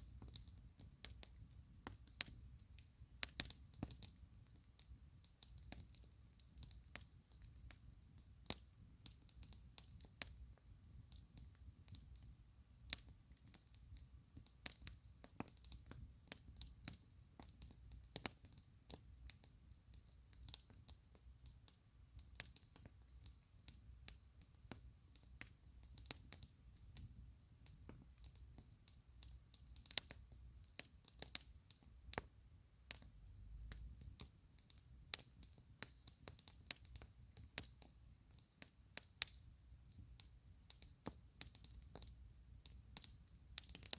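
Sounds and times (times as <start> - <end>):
campfire crackling and popping: 0.0 - 43.9
low rumble of burning fire: 0.0 - 43.9.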